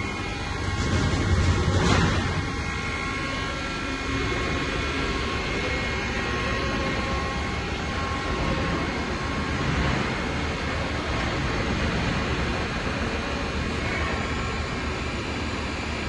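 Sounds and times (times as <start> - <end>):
lathe humming with high whine: 0.0 - 16.0.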